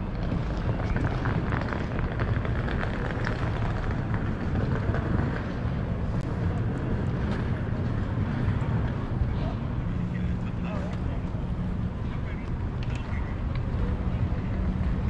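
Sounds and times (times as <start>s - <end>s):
traffic rumble: 0.0s - 15.0s
wind: 0.0s - 15.0s.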